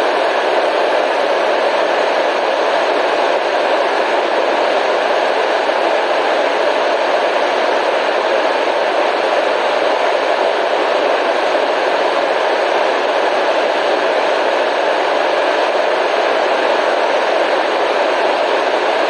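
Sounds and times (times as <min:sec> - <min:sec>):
white noise hiss: 0:00.0 - 0:19.0.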